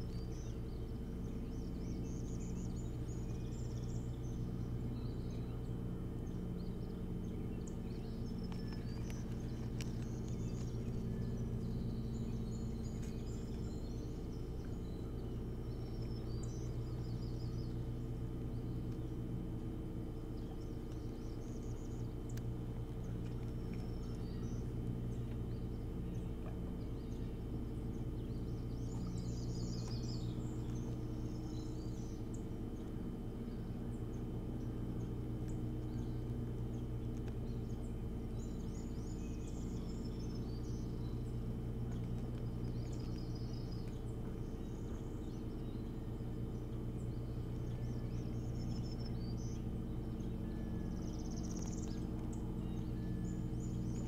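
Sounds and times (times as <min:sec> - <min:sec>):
low camera hum: 0:00.0 - 0:54.0
small birds trilling: 0:00.0 - 0:54.0.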